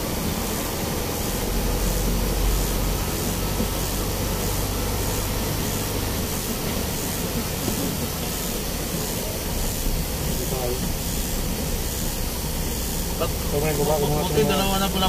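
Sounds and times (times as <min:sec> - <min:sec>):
rain and tyre spray hiss: 0:00.0 - 0:15.0
truck engine running: 0:00.0 - 0:15.0.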